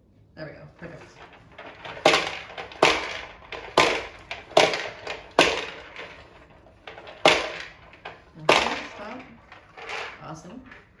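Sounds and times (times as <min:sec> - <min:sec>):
plastic balls clattering in toy dome: 0:00.8 - 0:11.0.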